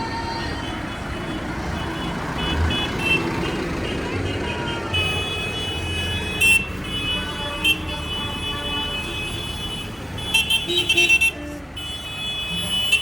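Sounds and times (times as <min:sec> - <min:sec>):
tractor engines rumbling: 0:00.0 - 0:13.0.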